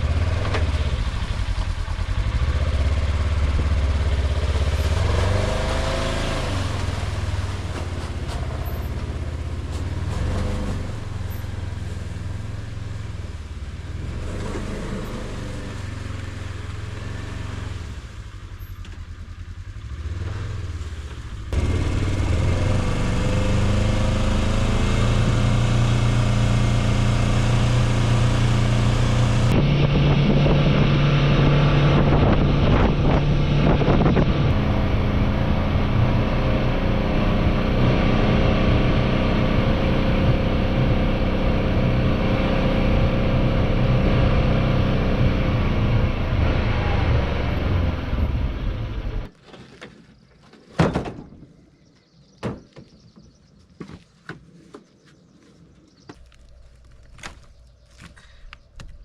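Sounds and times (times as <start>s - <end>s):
utility vehicle engine running: 0.0s - 49.4s.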